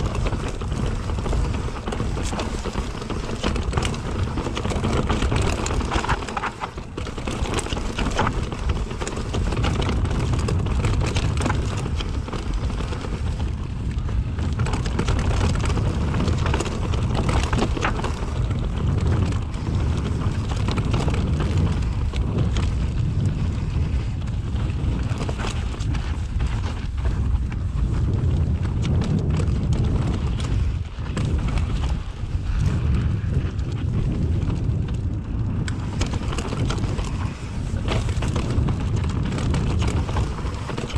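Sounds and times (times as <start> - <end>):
bike clattering over rocks: 0.0 - 40.9
bike rumbling over stones: 0.0 - 40.9.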